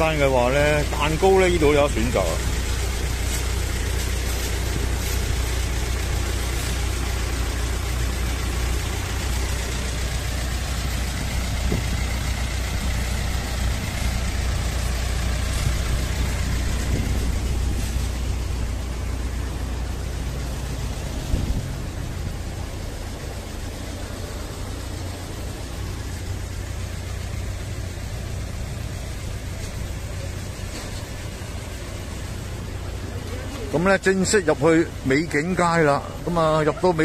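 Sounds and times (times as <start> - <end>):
street traffic noise: 0.0 - 37.0
vehicle engine humming: 0.0 - 37.0.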